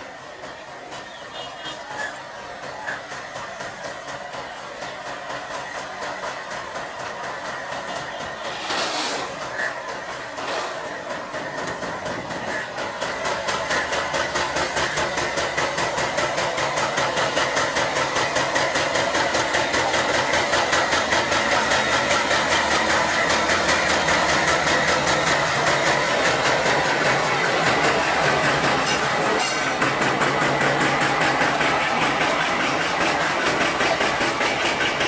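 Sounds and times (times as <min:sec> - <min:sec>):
diesel locomotive engine throbbing: 0:00.0 - 0:35.0.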